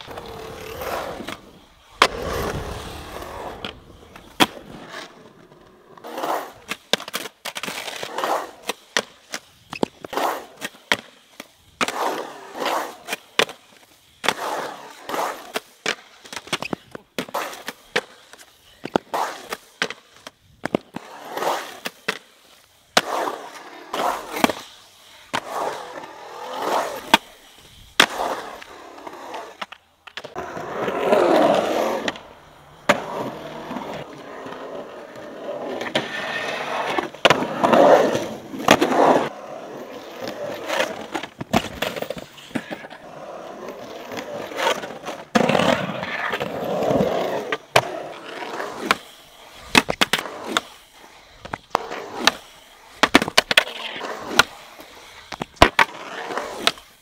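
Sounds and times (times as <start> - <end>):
skateboard wheels rolling on concrete: 0.0 - 57.0.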